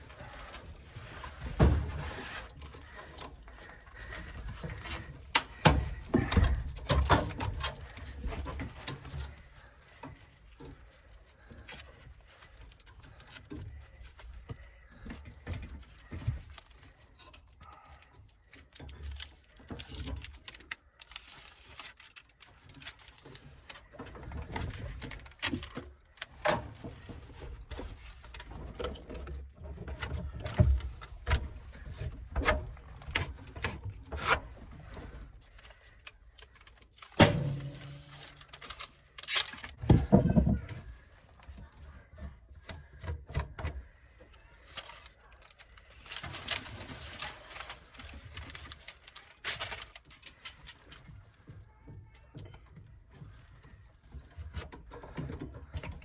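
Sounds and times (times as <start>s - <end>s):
tools and parts clicking and rattling: 0.0s - 56.0s.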